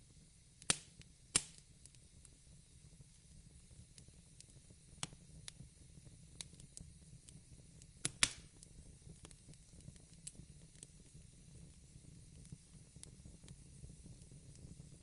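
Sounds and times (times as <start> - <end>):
fireplace crackling and popping: 0.0 - 15.0.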